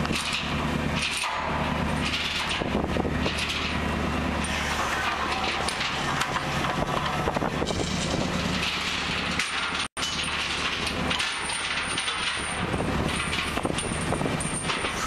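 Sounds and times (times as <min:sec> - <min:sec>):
boat engine and machinery humming: 0:00.0 - 0:15.0.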